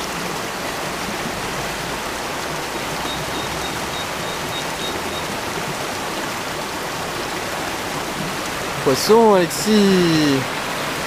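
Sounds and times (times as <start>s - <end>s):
stream running over stones: 0.0s - 11.0s.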